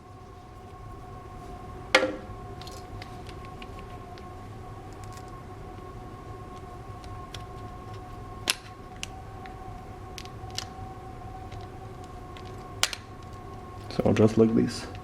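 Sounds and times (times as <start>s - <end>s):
electrical hum with tones: 0.0s - 15.0s.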